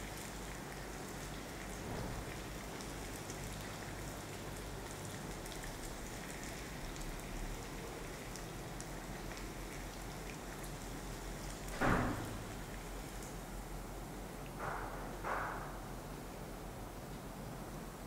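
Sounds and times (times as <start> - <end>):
dough sizzling in hot oil: 0.0 - 14.5.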